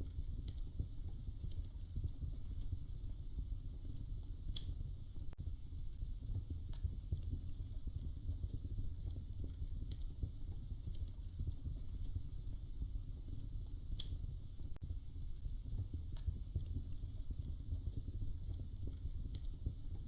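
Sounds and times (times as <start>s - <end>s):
fire burning rumble: 0.0s - 20.0s
fire pops and snaps: 0.0s - 20.0s.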